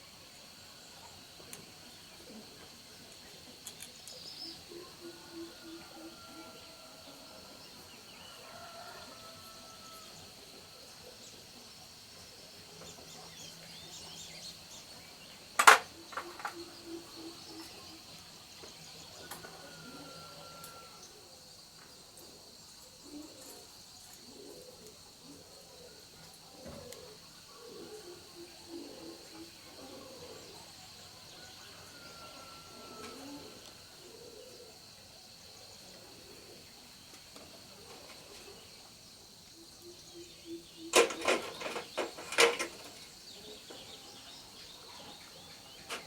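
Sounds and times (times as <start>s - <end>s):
high insect drone: 0.0s - 46.0s
bird calls: 0.8s - 11.8s, 12.7s - 21.2s, 23.0s - 34.8s, 39.6s - 46.0s.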